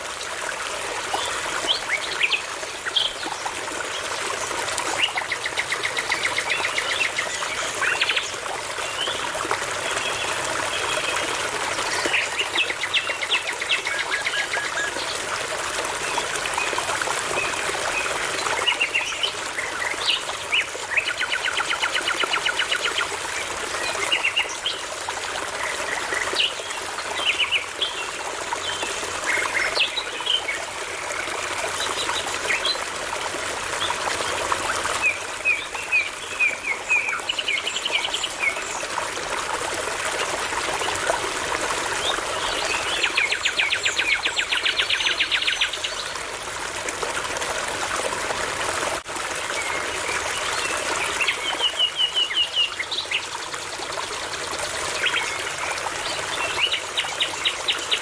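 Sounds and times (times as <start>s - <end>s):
babbling brook: 0.0s - 58.0s.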